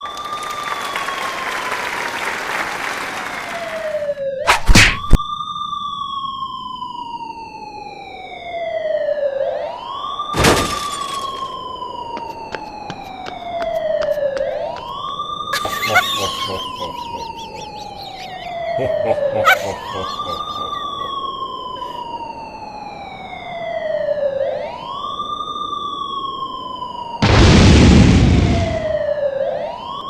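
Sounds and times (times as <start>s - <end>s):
siren wailing: 0.0s - 1.9s, 3.4s - 30.0s.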